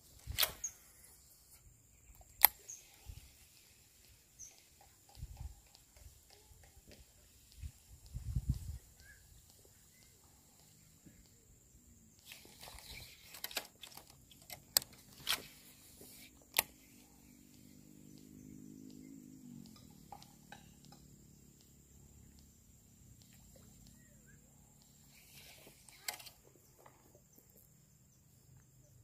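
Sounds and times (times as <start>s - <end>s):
fishing rod and reel clicks: 0.0s - 27.7s.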